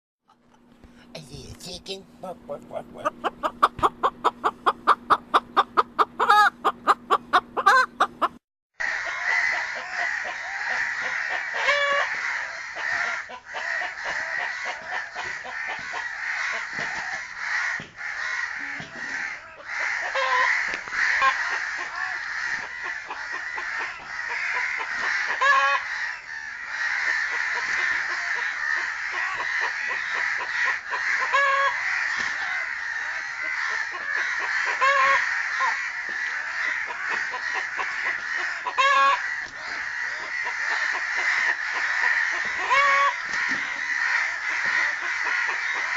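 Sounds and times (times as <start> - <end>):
chickens calling: 0.3 - 45.9.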